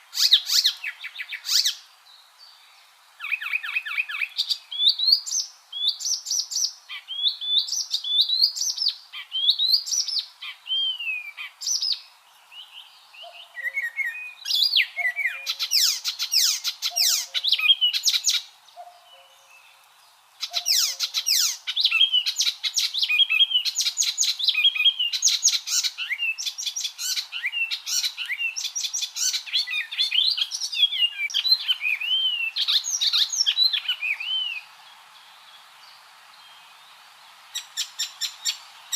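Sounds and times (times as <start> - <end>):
warbler singing: 0.0 - 37.0.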